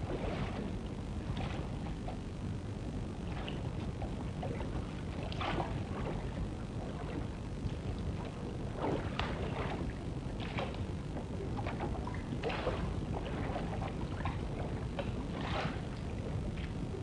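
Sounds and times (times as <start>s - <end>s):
water splashing and lapping: 0.0s - 2.5s, 3.1s - 17.0s.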